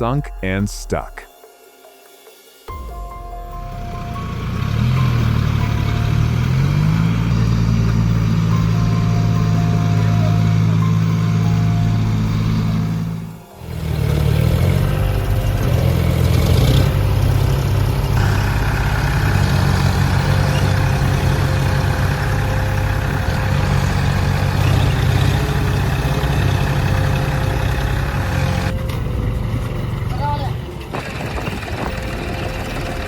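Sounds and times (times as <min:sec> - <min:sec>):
tractor diesel engine labouring: 0:03.6 - 0:33.0.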